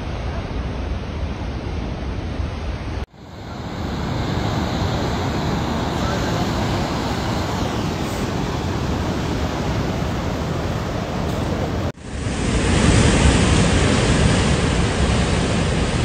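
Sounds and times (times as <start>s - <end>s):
storm surf breaking: 0.0s - 16.0s
wind: 0.0s - 16.0s.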